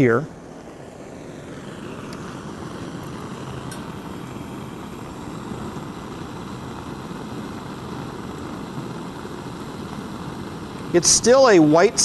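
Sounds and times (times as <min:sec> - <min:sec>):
gas burner flame roaring: 0:00.0 - 0:12.0.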